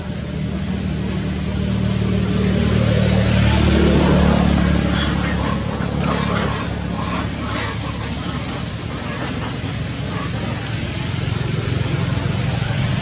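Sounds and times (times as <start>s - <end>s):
motor vehicle engine hum: 0.0s - 13.0s.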